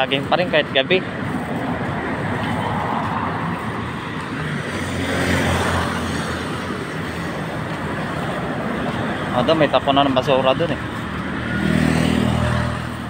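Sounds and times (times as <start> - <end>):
road traffic noise: 0.0 - 13.0
vehicle passing by: 0.0 - 13.0.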